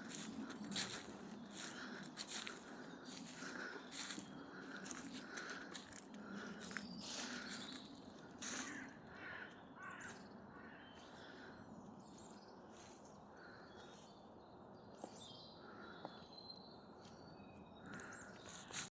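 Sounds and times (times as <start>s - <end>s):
distant bird calls: 0.0s - 18.9s.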